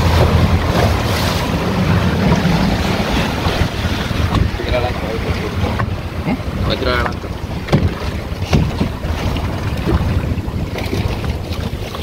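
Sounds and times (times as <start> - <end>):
boat rushing over water: 0.0 - 12.0
hull slapping waves: 0.0 - 12.0
wind buffeting microphone: 0.0 - 12.0.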